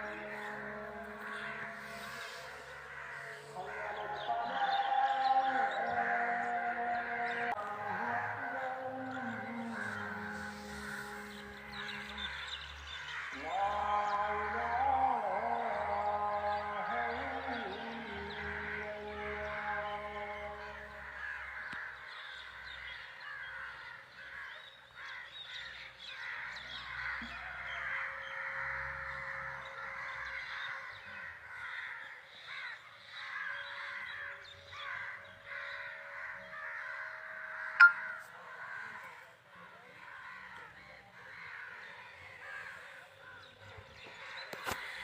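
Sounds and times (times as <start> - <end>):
flock of birds calling: 0.0 - 45.0.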